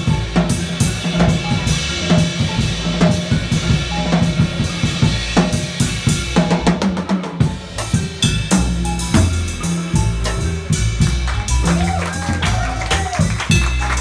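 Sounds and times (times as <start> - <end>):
double bass notes: 0.0 - 14.0
jazz drum kit: 0.0 - 14.0.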